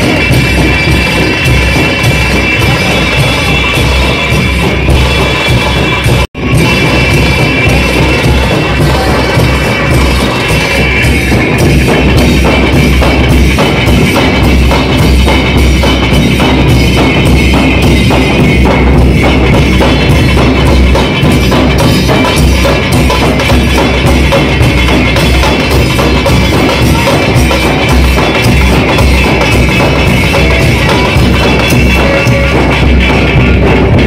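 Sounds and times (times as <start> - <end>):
loud music with drum beat: 0.0 - 34.0.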